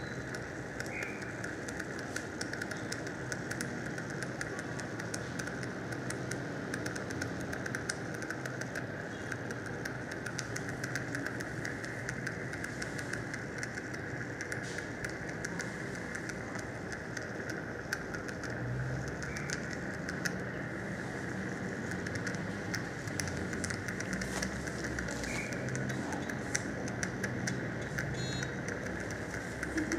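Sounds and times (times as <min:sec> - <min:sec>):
small crackling clicks: 0:00.0 - 0:29.9.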